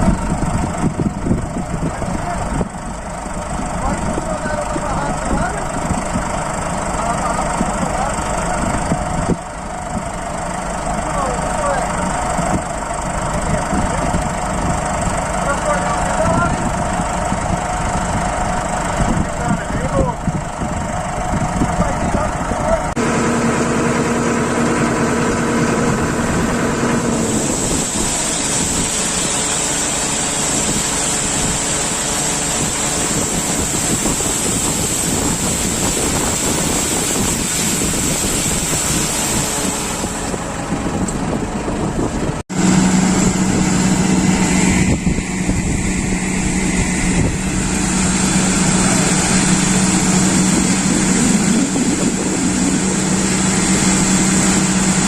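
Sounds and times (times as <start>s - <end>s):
heavy vehicle engine running: 0.0s - 55.0s.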